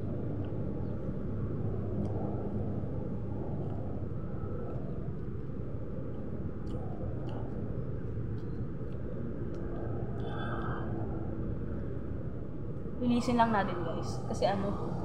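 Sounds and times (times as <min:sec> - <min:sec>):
faint hum: 0:00.0 - 0:15.0
low background rumble: 0:00.0 - 0:15.0.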